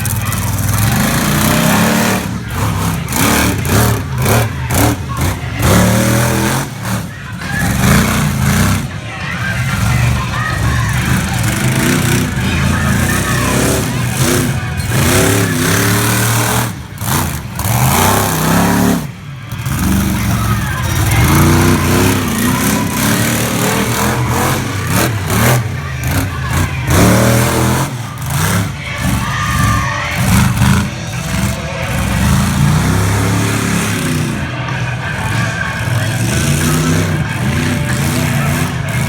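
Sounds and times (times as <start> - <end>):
monster truck engine revving: 0.0 - 39.0.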